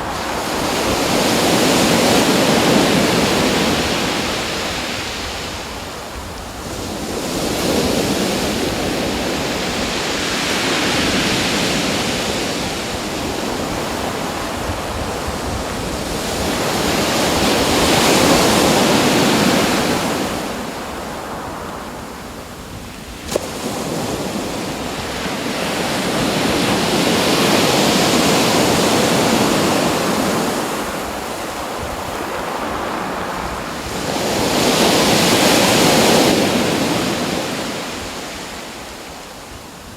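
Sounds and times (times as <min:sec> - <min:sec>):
ocean waves washing: 0:00.0 - 0:39.9.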